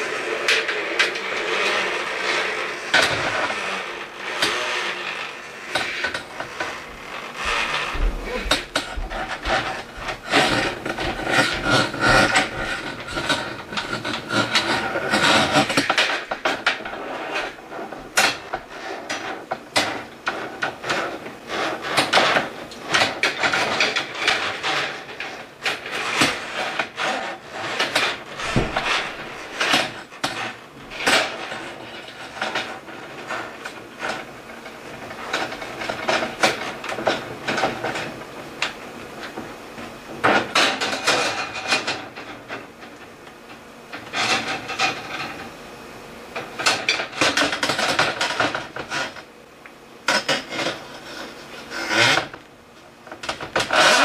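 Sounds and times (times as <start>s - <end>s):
hands rubbing and scraping plastic: 0.0s - 45.7s, 46.3s - 54.0s.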